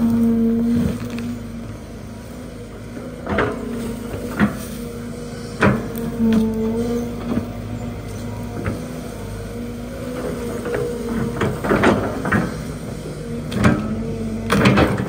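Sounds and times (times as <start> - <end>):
excavator engine and hydraulic whine: 0.0 - 15.0.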